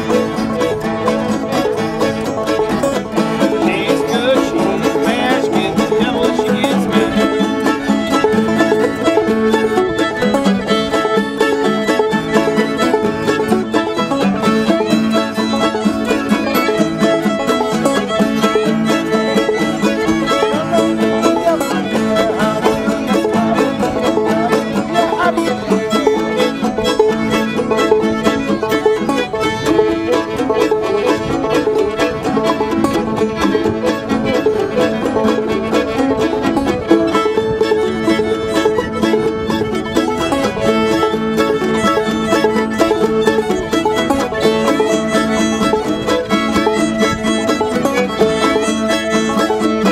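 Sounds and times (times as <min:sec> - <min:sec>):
busy instrumental music: 0:00.0 - 0:49.9.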